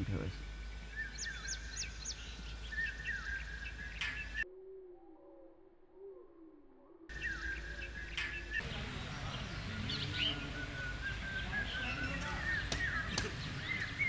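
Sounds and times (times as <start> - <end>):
wild birds chirping and whistling: 0.0 - 14.0.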